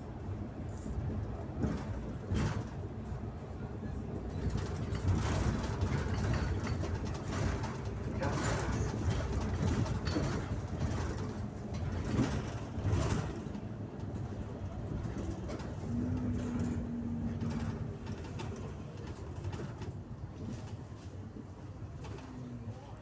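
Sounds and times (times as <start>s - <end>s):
bus interior rumble: 0.0s - 23.0s.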